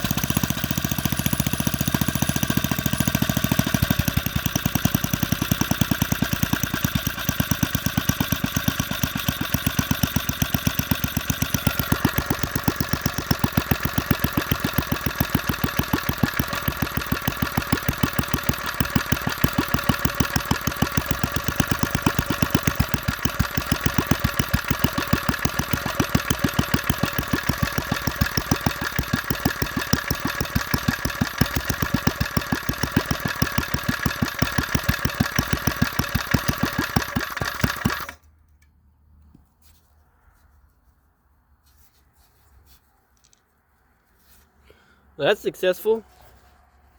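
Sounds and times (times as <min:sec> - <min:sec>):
single-cylinder engine idling: 0:00.0 - 0:38.2.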